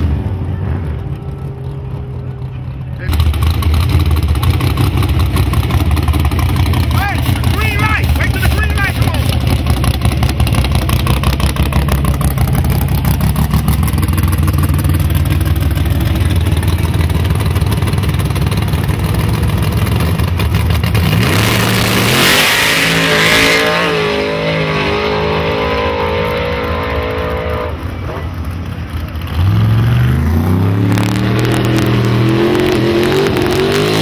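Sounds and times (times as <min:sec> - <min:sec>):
drag car engine accelerating: 0:00.0 - 0:34.0.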